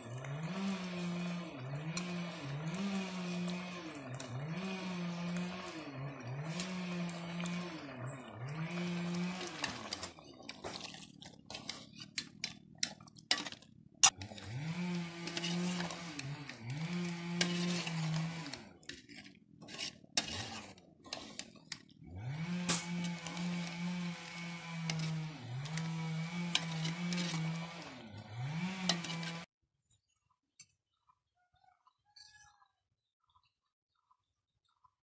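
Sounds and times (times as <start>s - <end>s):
ladle scraping metal pot: 0.0s - 29.5s.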